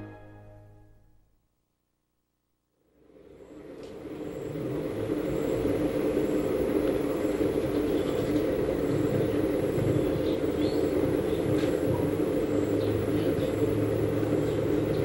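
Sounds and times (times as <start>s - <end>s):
steady rumbling noise: 2.8s - 15.0s.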